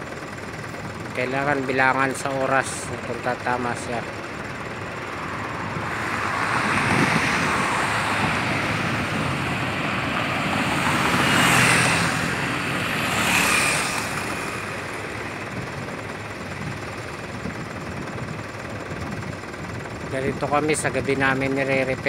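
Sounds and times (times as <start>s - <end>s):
vehicles passing on highway: 0.0s - 22.0s.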